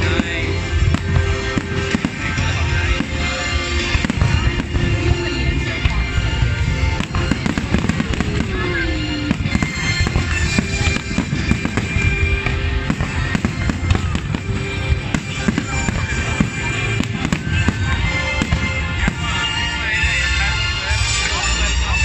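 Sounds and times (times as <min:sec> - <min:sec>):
fireworks bursting and crackling: 0:00.0 - 0:22.0
music playing: 0:00.0 - 0:22.0.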